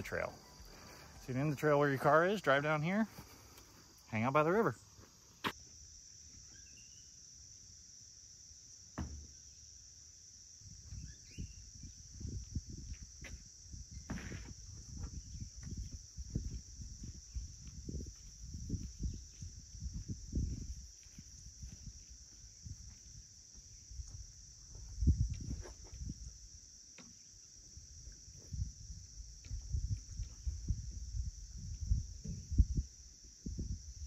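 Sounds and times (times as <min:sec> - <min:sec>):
insects singing drone: 0:00.0 - 0:34.0.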